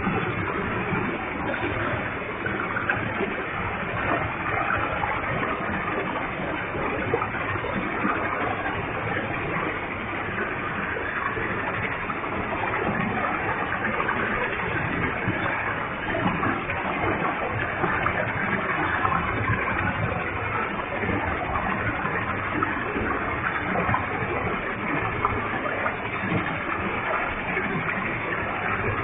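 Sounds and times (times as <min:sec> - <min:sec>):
waterfall rushing and splashing: 0:00.0 - 0:29.0.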